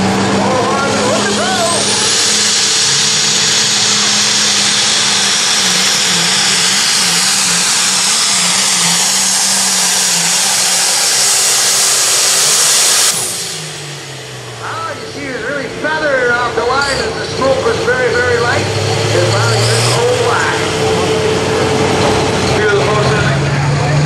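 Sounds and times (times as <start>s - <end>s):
high turbo whine: 0.0s - 24.0s
tractor diesel engine at full throttle: 0.0s - 24.0s.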